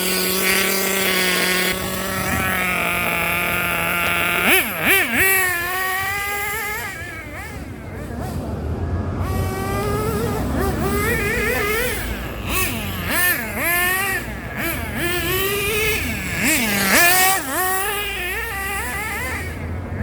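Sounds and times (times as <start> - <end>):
small race engine revving: 0.0 - 20.0.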